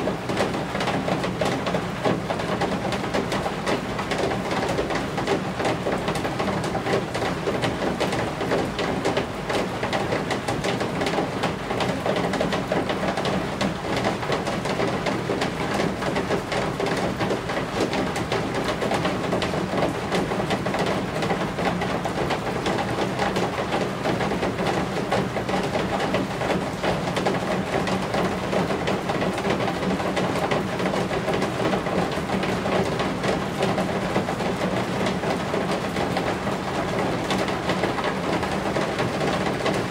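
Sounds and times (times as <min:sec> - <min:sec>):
rain falling on roof eaves: 0:00.0 - 0:39.9.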